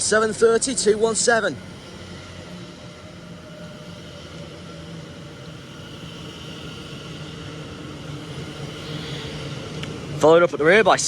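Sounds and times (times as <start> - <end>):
electric train hum and whine: 0.0 - 11.0.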